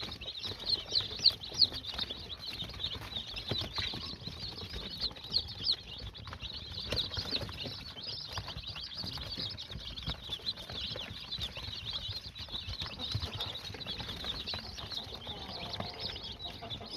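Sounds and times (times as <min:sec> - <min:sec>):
chicks cheeping: 0:00.0 - 0:16.9
rustling and scratching: 0:00.0 - 0:16.9.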